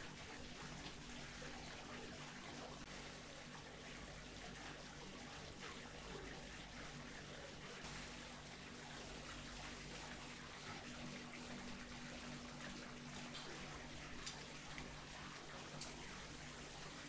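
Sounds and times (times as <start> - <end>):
faint steady hum: 0.0 - 17.0
water pouring and splashing: 0.0 - 17.0.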